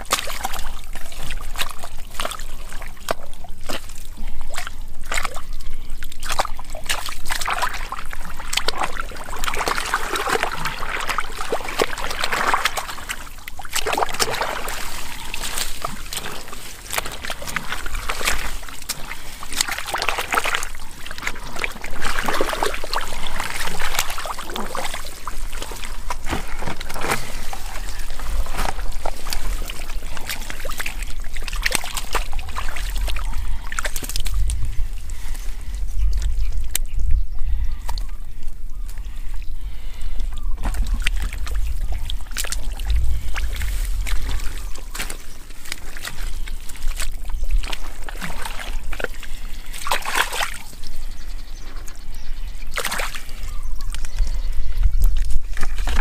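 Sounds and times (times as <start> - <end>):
muddy water splashing: 0.0 - 56.0.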